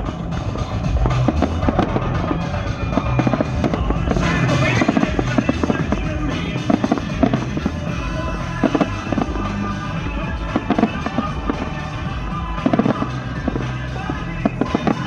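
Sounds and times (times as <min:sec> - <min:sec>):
fireworks banging: 0:00.0 - 0:15.0
show music: 0:00.0 - 0:15.0.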